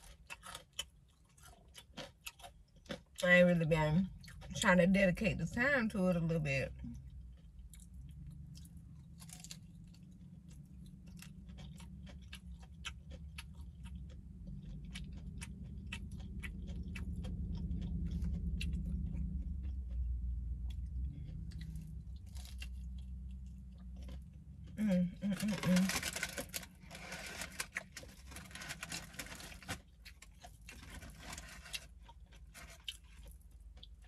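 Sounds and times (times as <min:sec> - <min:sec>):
crunching fried chicken: 0:00.0 - 0:03.3, 0:06.7 - 0:34.0
low steady rumble: 0:00.0 - 0:34.0.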